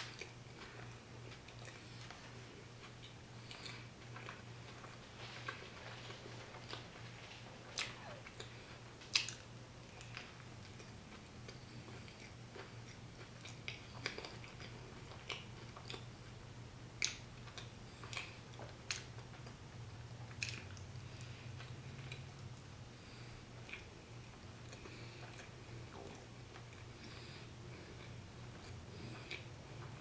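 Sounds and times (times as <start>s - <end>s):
close chewing with mouth clicks: 0.0s - 30.0s
steady low hum: 0.0s - 30.0s.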